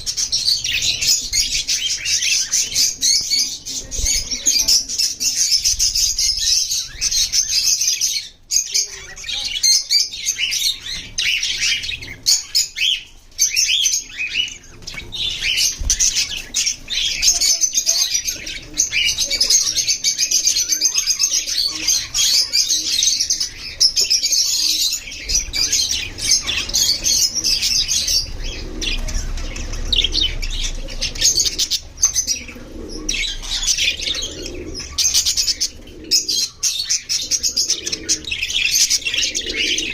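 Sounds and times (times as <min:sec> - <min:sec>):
budgies chirping and chattering: 0:00.0 - 0:39.9.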